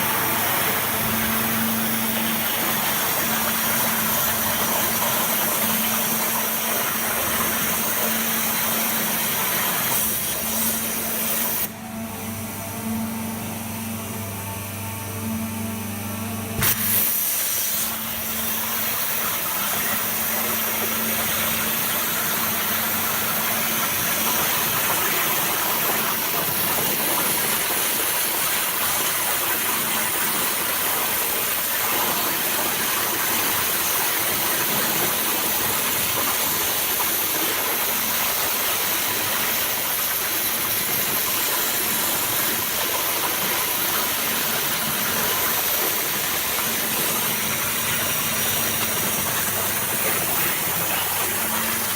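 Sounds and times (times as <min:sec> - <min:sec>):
water jet hissing: 0:00.0 - 0:11.7, 0:16.6 - 0:51.9.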